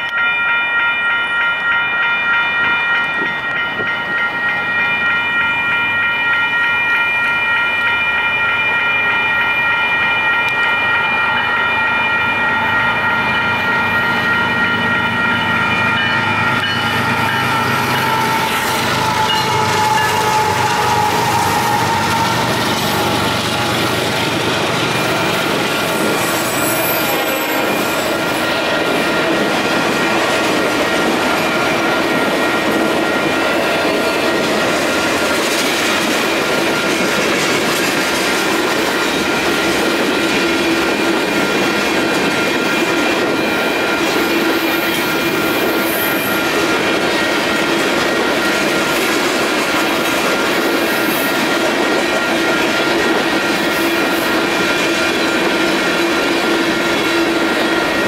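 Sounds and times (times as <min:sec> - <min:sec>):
steady high tones: 0:00.0 - 0:58.0
train wheels on rails: 0:00.0 - 0:58.0.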